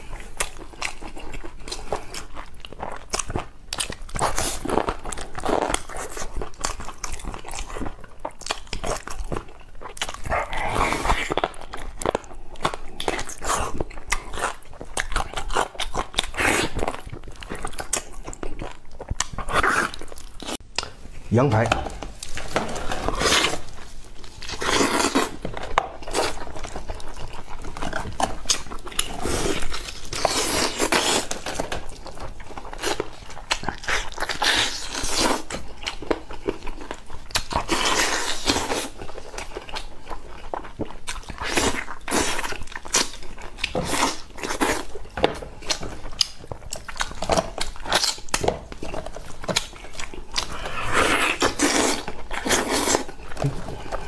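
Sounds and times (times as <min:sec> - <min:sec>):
person chewing meat loudly: 0:00.0 - 0:54.0.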